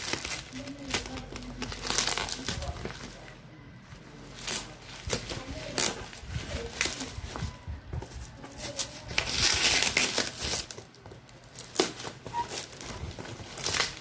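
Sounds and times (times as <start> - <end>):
packaging crinkling and rustling: 0.0 - 3.4, 4.2 - 14.0.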